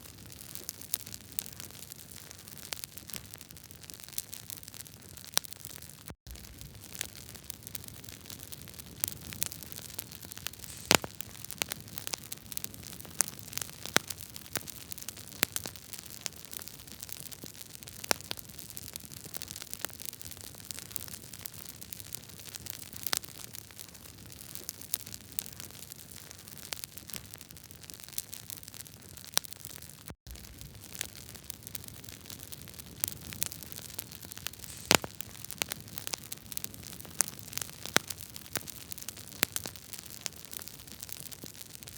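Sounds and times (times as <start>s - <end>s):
log fire crackling and popping: 0.0s - 41.9s.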